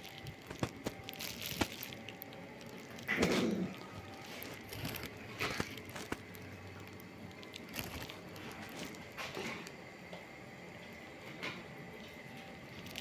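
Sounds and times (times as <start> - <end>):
cats eating and scuffling: 0.0 - 13.0.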